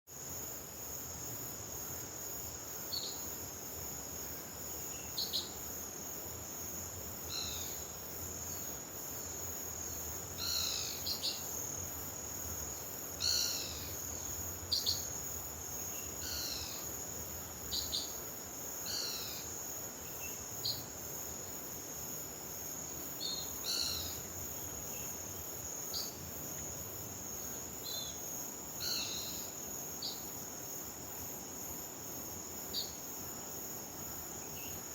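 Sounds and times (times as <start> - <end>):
cricket trill: 0.1 - 34.9.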